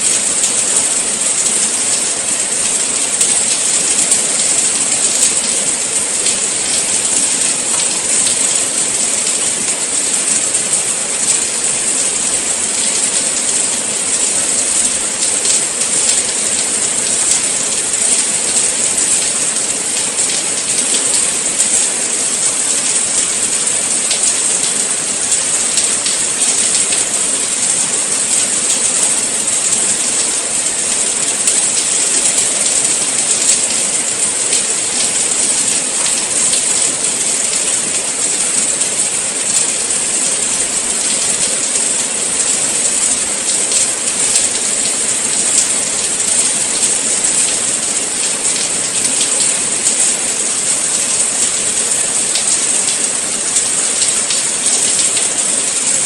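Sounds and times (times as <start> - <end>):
steady rain hiss: 0.0 - 56.0
raindrop ticks: 0.1 - 40.0, 40.8 - 56.0.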